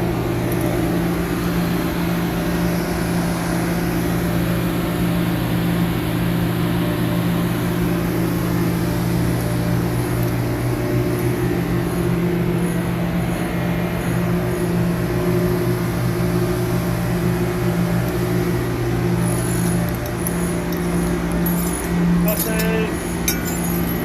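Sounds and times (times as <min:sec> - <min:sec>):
heavy machinery engine drone: 0:00.0 - 0:24.0.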